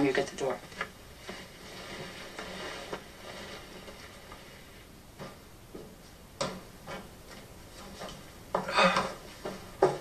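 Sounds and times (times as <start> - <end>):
clothing rustling: 0.0 - 8.4.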